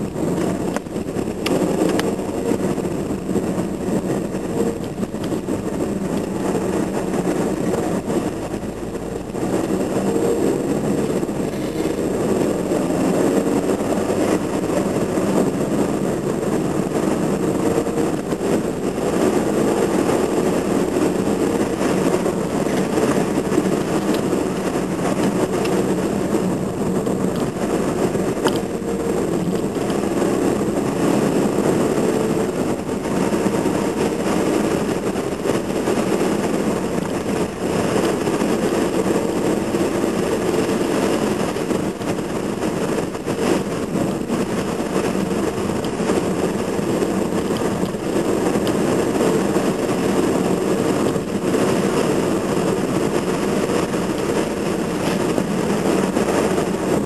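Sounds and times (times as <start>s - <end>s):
car engine and tyre drone: 0.0s - 57.0s.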